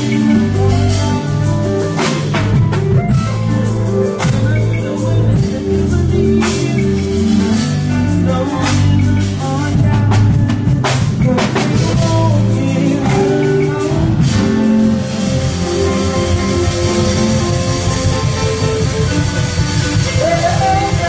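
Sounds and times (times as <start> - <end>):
bass line: 0.0 - 21.0
drum kit hits: 0.0 - 21.0
keyboard held chords: 0.0 - 21.0.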